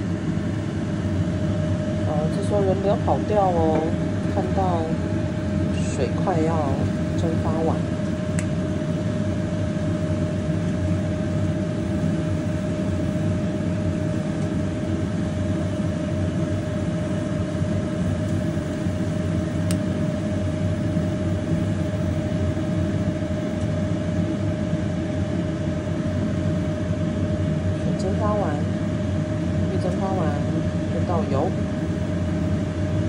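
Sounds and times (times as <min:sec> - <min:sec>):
mid-pitched hum: 0:00.0 - 0:33.0.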